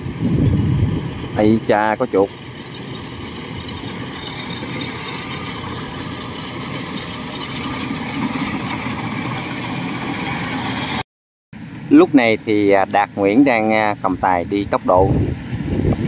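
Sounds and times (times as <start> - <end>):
combine harvester running: 0.0 - 11.0, 11.6 - 16.0.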